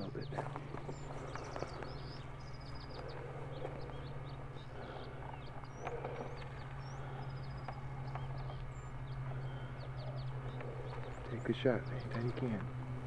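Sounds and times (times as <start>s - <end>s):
birds chirping and trilling: 0.0s - 13.0s
steady low hum: 0.0s - 13.0s.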